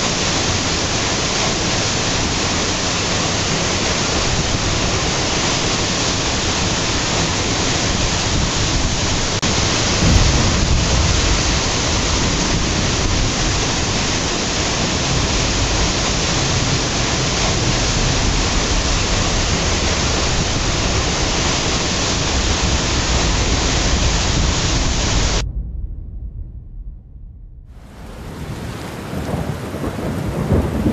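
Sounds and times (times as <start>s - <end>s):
waterfall rushing: 0.0s - 25.4s.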